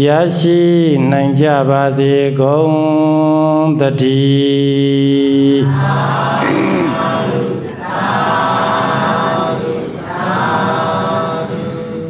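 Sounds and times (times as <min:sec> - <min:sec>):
congregation chanting in unison: 0:00.0 - 0:12.0.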